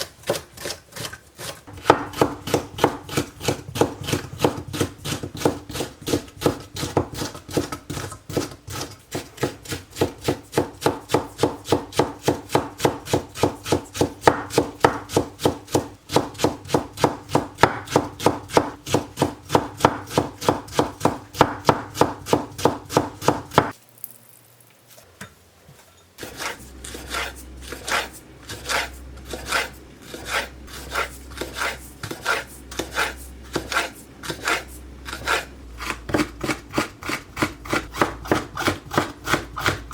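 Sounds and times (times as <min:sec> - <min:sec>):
knife chopping on wooden board: 0:00.2 - 0:23.8, 0:26.2 - 0:39.9.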